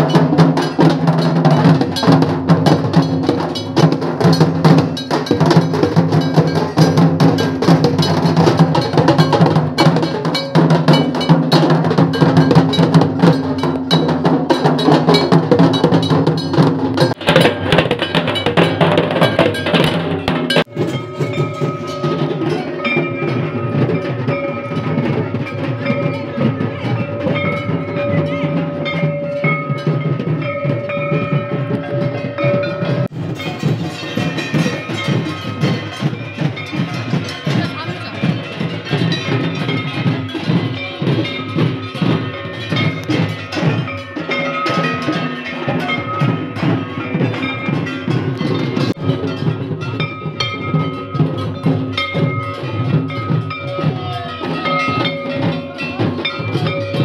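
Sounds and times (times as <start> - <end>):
brass gong plate clanging: 0.0 - 57.0
drums beaten fast with sticks: 0.0 - 57.0.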